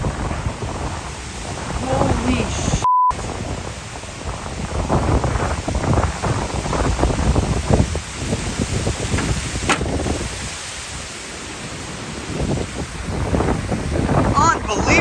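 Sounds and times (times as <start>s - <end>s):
wind and rain gusting: 0.0s - 15.0s
wind buffeting microphone: 0.0s - 15.0s.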